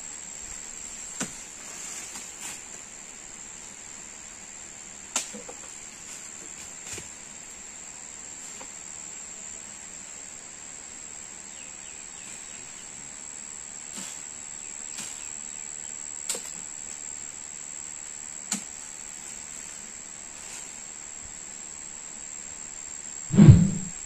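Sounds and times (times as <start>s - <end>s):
insect whine: 0.0s - 24.0s.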